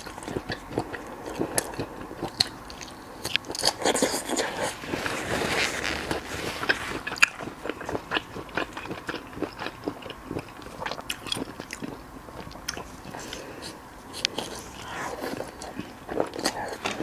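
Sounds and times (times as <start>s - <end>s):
crunchy chewing of fried food: 0.0s - 17.0s.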